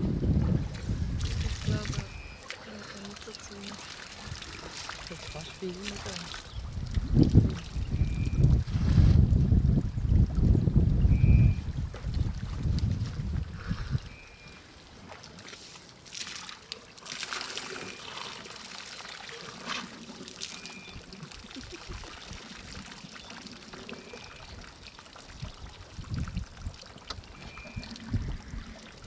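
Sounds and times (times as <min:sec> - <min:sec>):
water splashing and trickling: 0:00.0 - 0:29.0.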